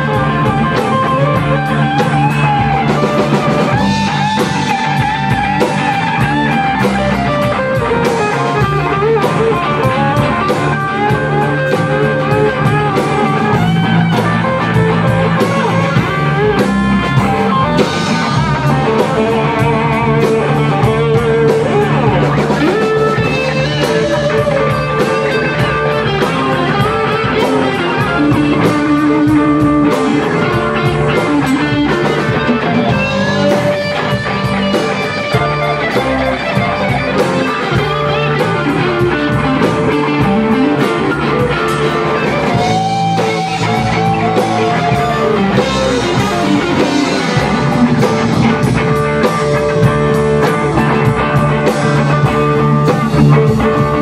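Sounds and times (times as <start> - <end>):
bass guitar: 0.0 - 54.0
drum hits: 0.0 - 54.0
electric guitars: 0.0 - 54.0.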